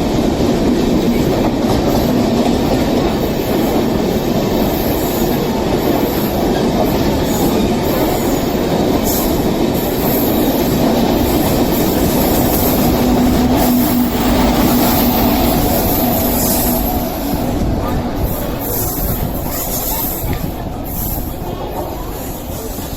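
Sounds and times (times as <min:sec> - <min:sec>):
train rail and wheel noise: 0:00.0 - 0:22.9.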